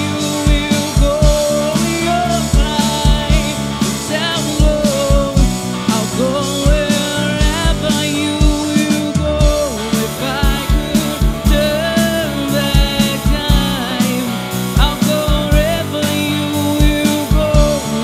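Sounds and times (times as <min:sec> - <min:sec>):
drum kit with kick-drum beat: 0:00.0 - 0:18.0
electric bass: 0:00.0 - 0:18.0
electric guitar: 0:00.0 - 0:18.0.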